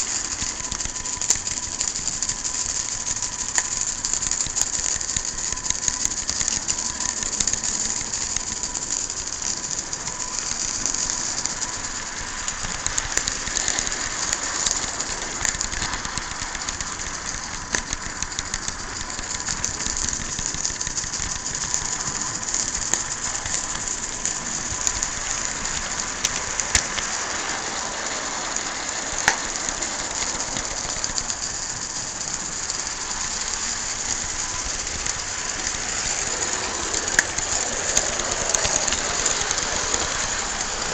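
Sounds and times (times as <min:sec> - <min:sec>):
running gear clicks and ticks: 0:00.0 - 0:40.9
steam hissing: 0:00.0 - 0:40.9.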